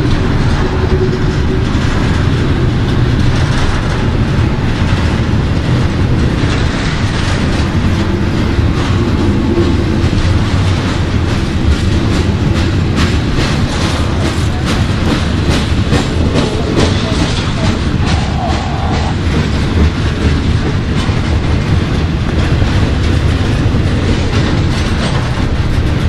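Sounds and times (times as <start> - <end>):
steel wheels rumbling on rail: 0.0 - 26.0
wheels clickety-clacking: 0.0 - 26.0.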